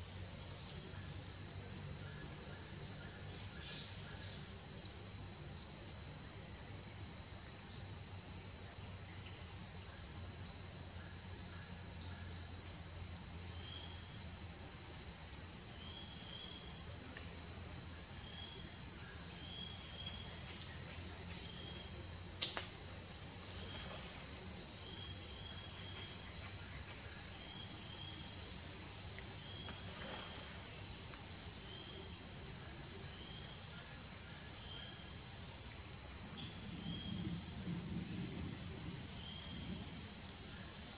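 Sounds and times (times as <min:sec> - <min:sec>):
shrill insect chorus: 0:00.0 - 0:40.9.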